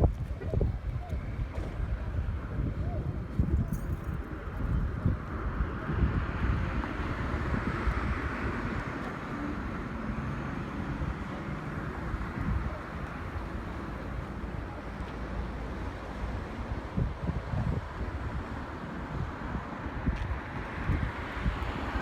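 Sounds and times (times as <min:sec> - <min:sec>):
car engine and road rumble: 0:00.0 - 0:22.0
wind buffeting microphone: 0:00.0 - 0:22.0.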